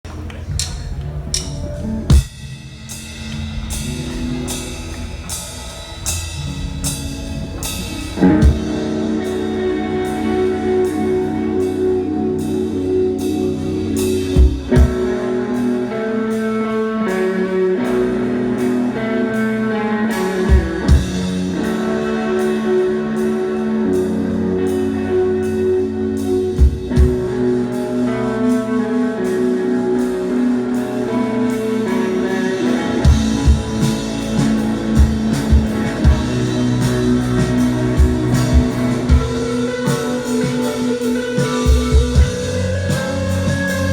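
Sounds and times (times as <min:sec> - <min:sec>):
rock band playing live: 0:00.1 - 0:43.9.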